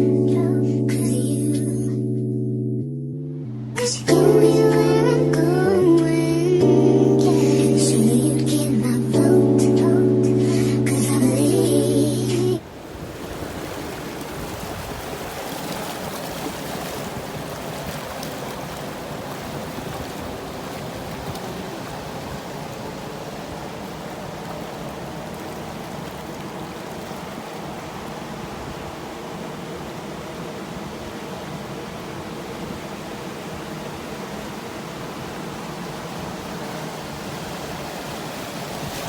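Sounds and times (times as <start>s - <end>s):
ocean surf washing: 3.5s - 39.0s.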